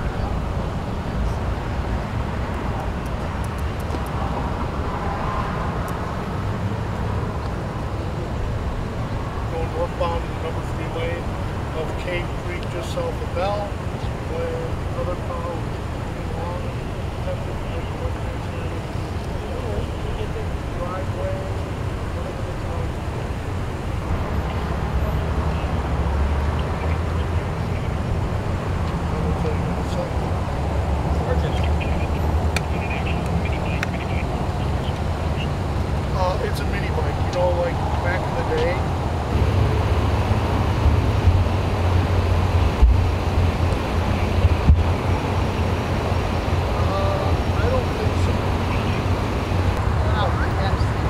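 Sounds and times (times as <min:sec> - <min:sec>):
road traffic rumble: 0:00.0 - 0:51.0
vehicle engines idling: 0:00.0 - 0:51.0.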